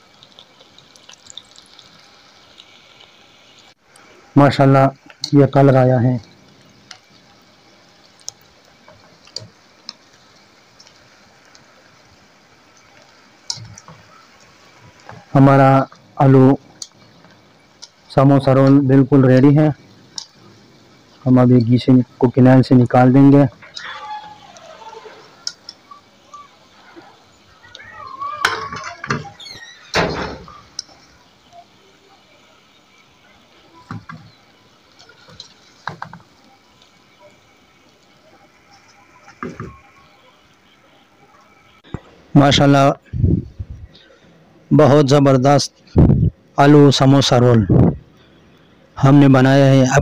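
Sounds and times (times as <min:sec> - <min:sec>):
deep-frying sizzle: 0:00.0 - 0:50.0.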